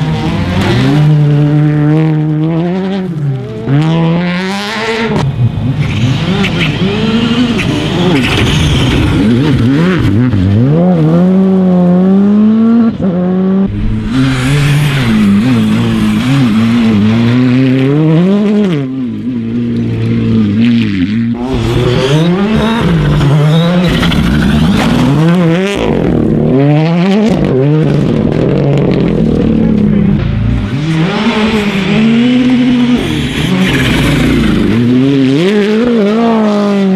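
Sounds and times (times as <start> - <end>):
rally car engines revving: 0.0 - 36.9.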